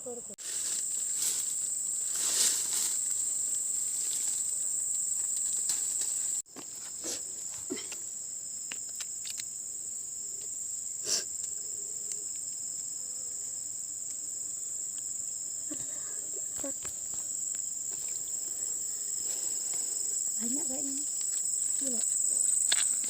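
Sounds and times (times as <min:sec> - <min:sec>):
high-pitched insect chorus droning: 0:00.0 - 0:23.0.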